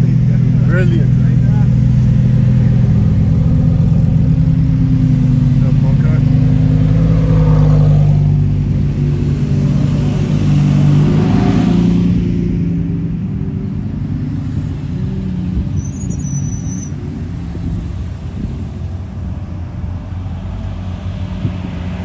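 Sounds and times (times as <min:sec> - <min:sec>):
car engines deep drone: 0:00.0 - 0:22.0.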